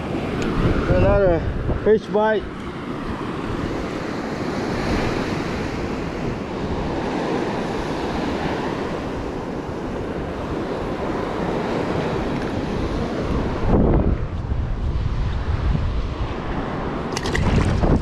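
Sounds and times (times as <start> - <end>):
surf washing onto beach: 0.0 - 18.0
wind rumbling on microphone: 0.0 - 18.0.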